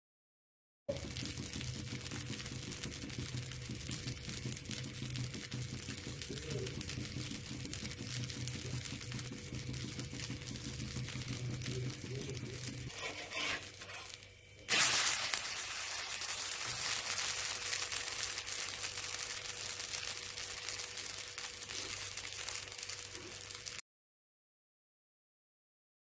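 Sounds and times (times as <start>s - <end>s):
pancake sizzling on a hot pan: 0.9s - 23.8s.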